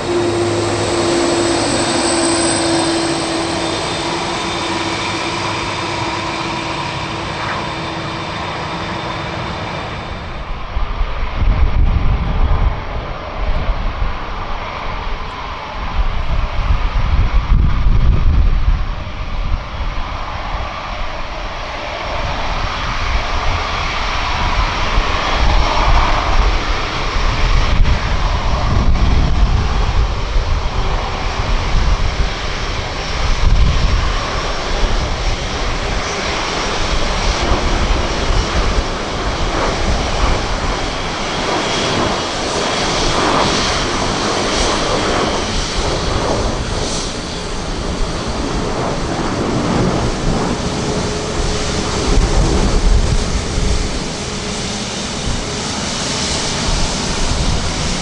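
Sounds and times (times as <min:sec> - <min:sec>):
jet engines rumbling with whine: 0:00.0 - 0:58.0.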